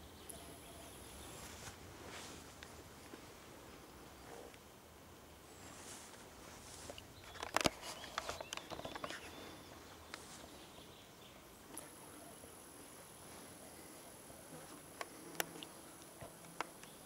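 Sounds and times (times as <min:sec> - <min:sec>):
rustling in grass: 0:00.9 - 0:04.5, 0:05.4 - 0:16.5.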